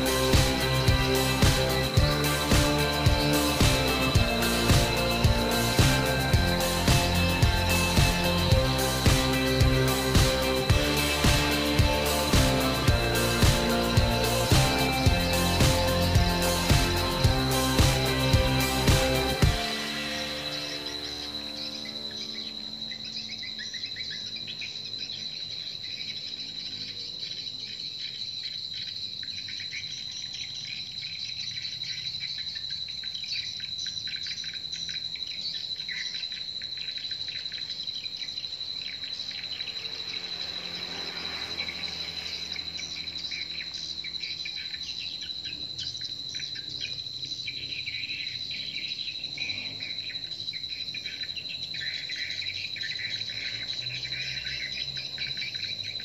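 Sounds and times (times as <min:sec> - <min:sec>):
high insect-like tone: 0:00.0 - 0:56.0
twittering bird chirps: 0:00.0 - 0:56.0.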